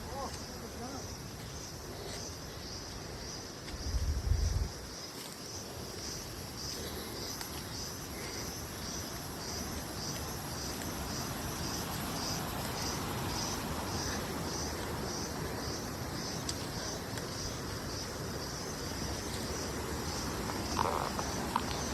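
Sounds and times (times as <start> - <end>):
high-pitched insect hiss: 0.0 - 21.9
insects chirping rhythmically: 0.0 - 21.9
outdoor background noise: 0.0 - 21.9.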